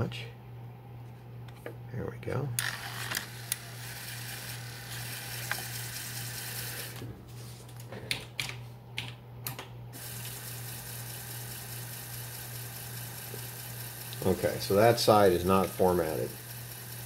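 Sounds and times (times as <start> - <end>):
floppy drive humming and hissing: 0.0 - 17.0.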